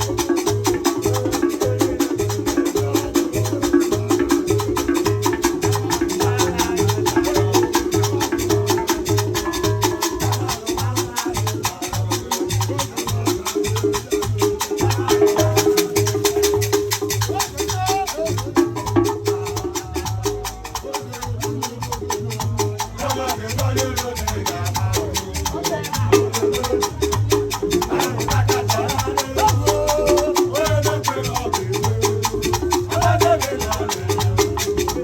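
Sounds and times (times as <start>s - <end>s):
low bass pattern: 0.0s - 35.0s
person singing: 0.0s - 35.0s.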